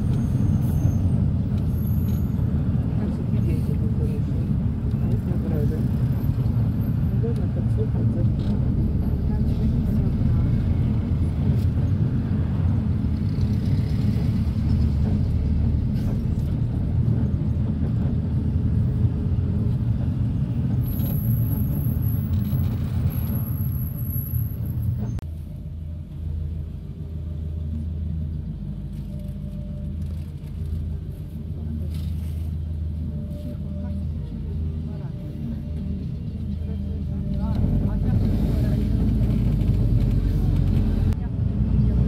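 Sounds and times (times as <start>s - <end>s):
minibus engine and road rumble: 0.0s - 42.0s.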